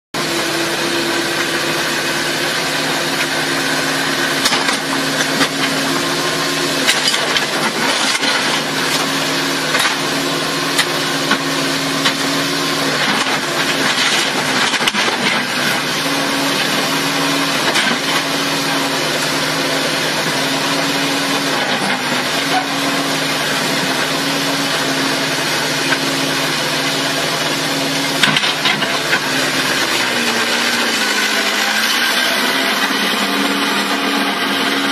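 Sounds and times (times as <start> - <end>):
excavator engine under hydraulic load: 0.2 - 34.9.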